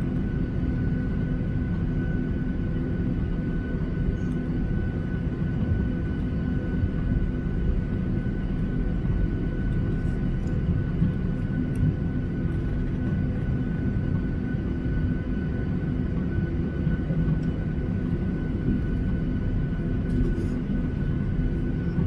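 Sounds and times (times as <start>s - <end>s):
jet engines idling: 0.0s - 22.0s.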